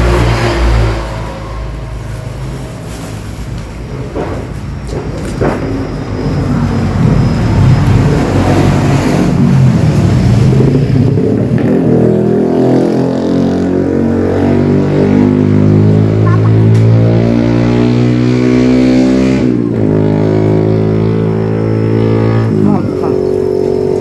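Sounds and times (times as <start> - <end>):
vehicle engine running: 0.0 - 12.2, 15.1 - 18.7, 19.7 - 24.0
road and wind noise: 0.0 - 24.0.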